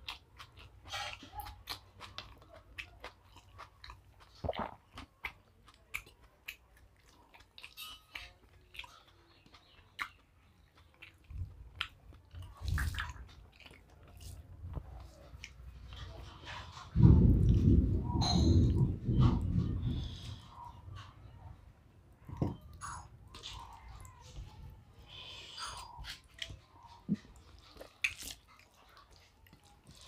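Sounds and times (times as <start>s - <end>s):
close chewing with mouth clicks: 0.0s - 21.4s, 22.2s - 30.0s.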